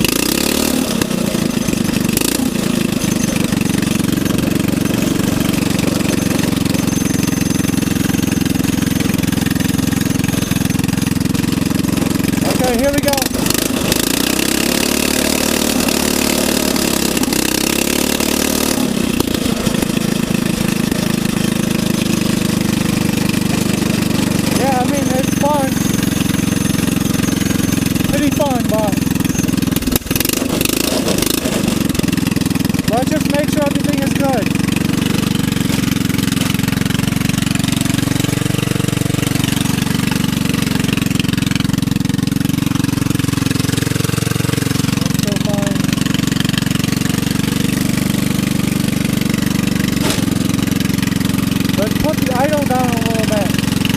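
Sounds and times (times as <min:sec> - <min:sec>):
small go-kart engine running: 0:00.0 - 0:53.9.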